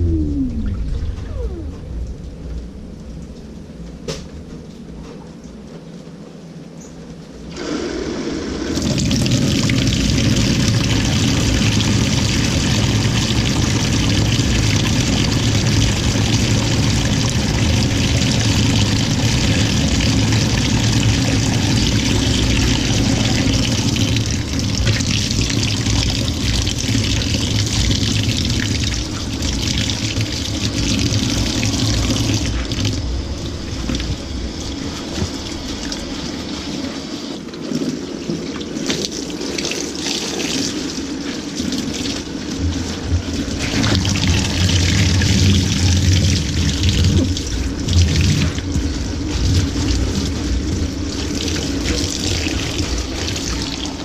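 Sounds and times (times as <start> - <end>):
low machine hum: 0.0 - 54.0
water sloshing in washing machine: 7.5 - 54.0.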